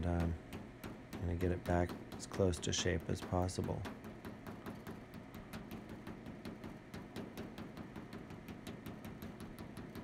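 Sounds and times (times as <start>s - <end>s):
hammer tapping on metal: 0.0s - 10.0s.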